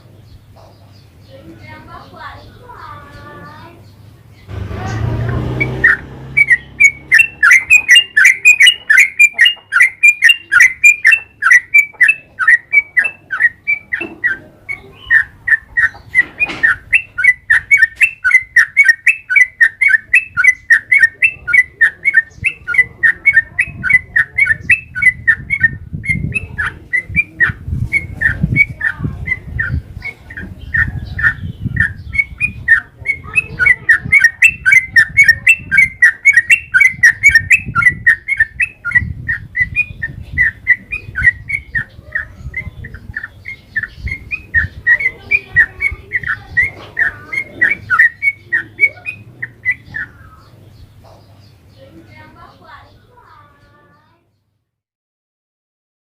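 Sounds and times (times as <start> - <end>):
bulbul chirping song: 0.0 - 54.6.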